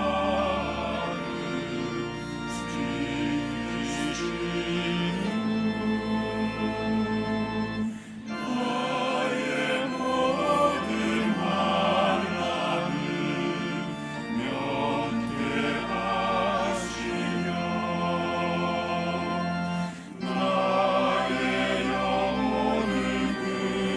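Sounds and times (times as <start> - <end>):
choir singing: 0.0 - 23.9
sustained low accompanying notes: 0.0 - 23.9.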